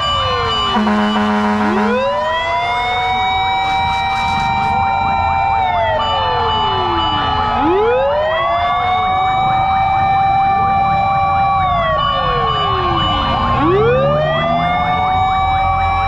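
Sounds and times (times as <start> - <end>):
fire truck sirens wailing: 0.0 - 16.0.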